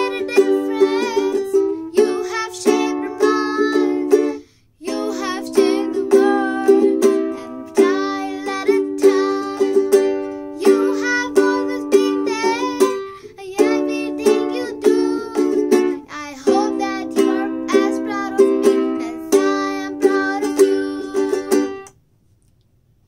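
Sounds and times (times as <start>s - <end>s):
child singing: 0.0s - 21.9s
ukulele strumming chords: 0.0s - 22.0s.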